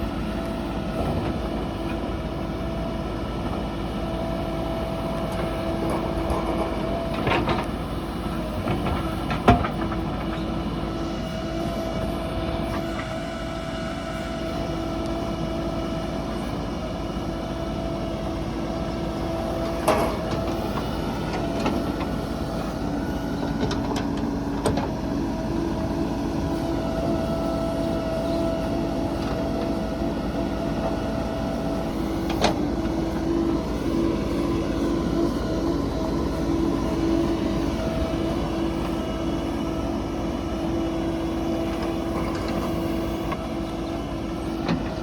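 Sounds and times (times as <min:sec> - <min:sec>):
diesel engine running: 0:00.0 - 0:45.0
engine whine: 0:00.0 - 0:45.0.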